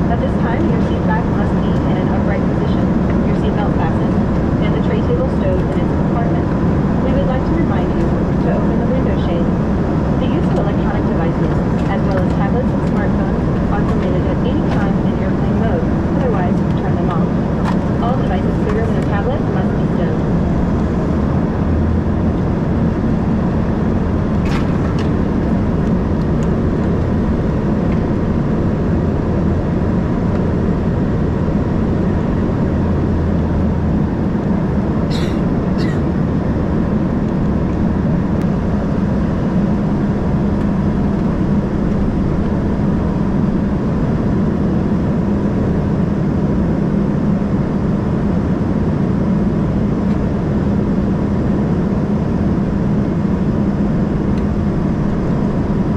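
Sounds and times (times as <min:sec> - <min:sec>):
airplane cabin roar: 0:00.0 - 0:55.9.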